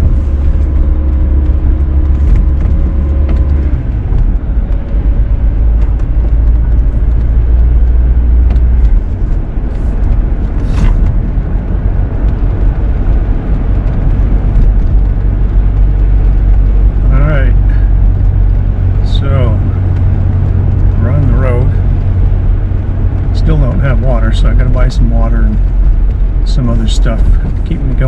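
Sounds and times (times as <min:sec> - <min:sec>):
vehicle cabin road noise: 0:00.0 - 0:28.0.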